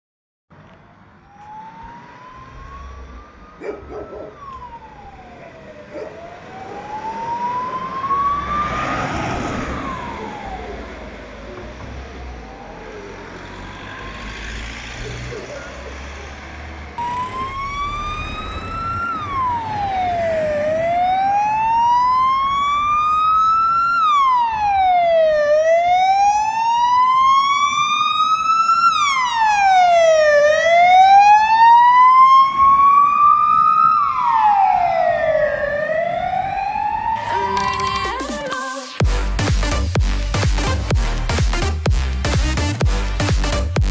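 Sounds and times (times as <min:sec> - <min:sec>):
ambulance siren wailing: 0:01.1 - 0:43.9.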